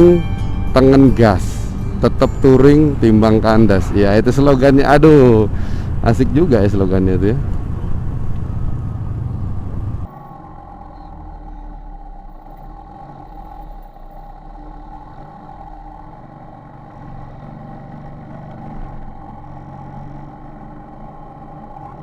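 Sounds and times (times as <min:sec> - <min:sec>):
road traffic noise: 0:00.0 - 0:22.0
vehicle engine running: 0:00.0 - 0:22.0.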